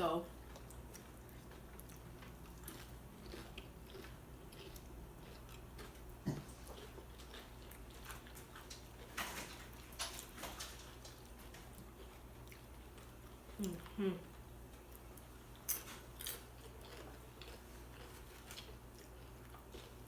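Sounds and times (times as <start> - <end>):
chips crunching and chewing: 0.4 - 13.9, 14.6 - 20.0.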